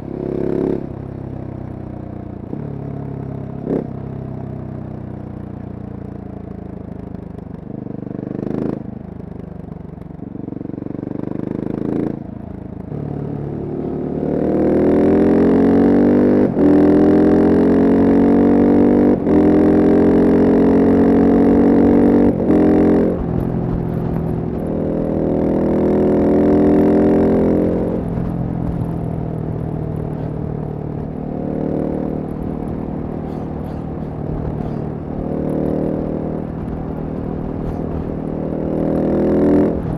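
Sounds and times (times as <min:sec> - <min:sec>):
motorcycle engine revving: 0:00.0 - 0:06.8, 0:07.6 - 0:39.9.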